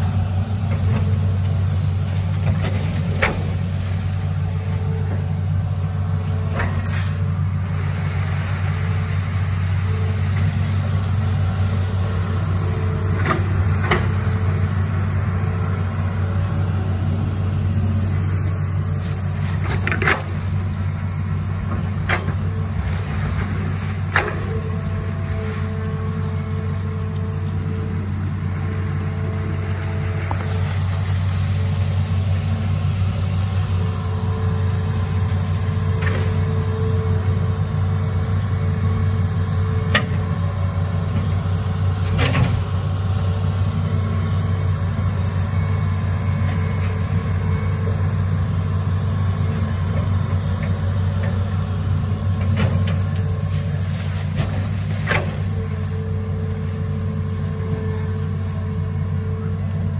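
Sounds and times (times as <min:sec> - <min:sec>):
excavator diesel engine running: 0:00.0 - 0:59.9
high engine whine: 0:00.0 - 0:59.9.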